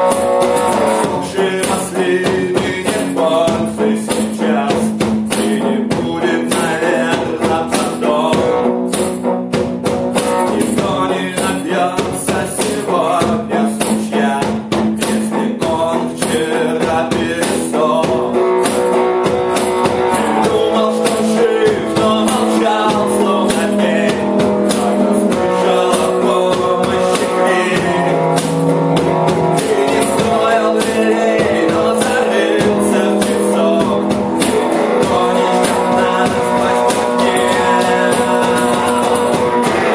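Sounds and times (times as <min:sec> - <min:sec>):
person singing: 0:00.0 - 0:08.9, 0:10.2 - 0:39.9
rock song with guitar and drums: 0:00.0 - 0:39.9.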